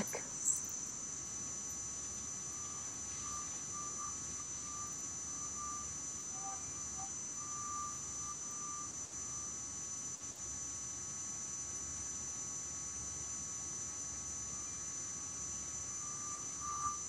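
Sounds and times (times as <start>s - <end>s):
faint high-pitched whine: 0.0s - 17.0s
low background hiss and hum: 0.0s - 17.0s.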